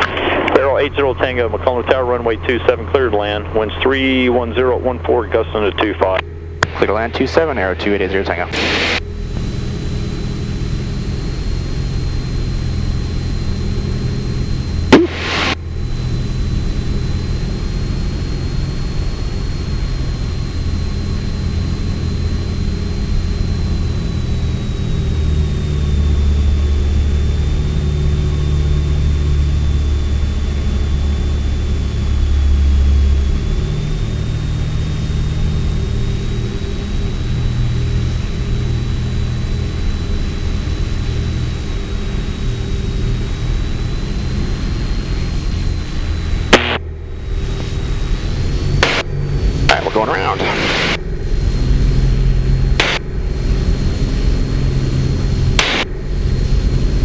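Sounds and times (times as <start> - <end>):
propeller plane engine droning: 0.0 - 57.0
thin high whine: 0.0 - 57.0.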